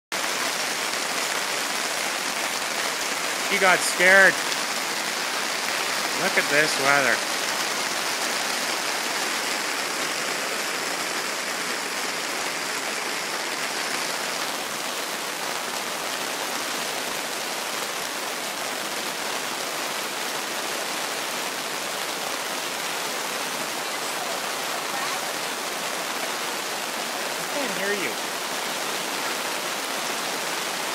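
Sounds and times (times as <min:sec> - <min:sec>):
pouring rain: 0:00.1 - 0:30.9.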